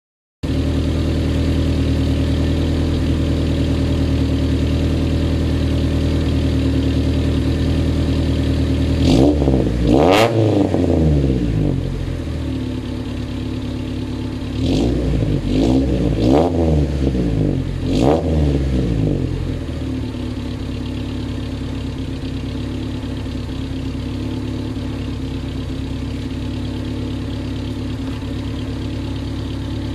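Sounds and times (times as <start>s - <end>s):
car exhaust idling: 0.4s - 29.9s
engine throttle blips: 0.5s - 29.9s.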